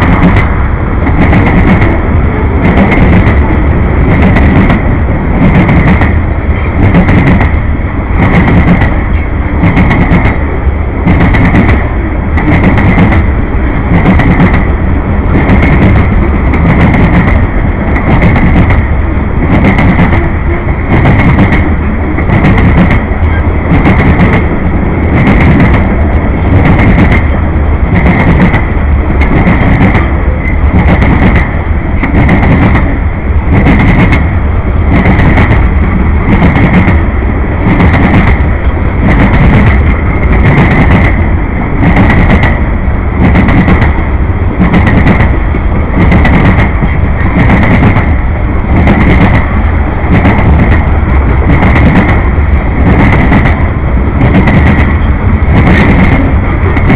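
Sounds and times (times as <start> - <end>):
train rumbling roar: 0.0 - 56.9
train wheels clacking over rail joints: 0.0 - 56.9.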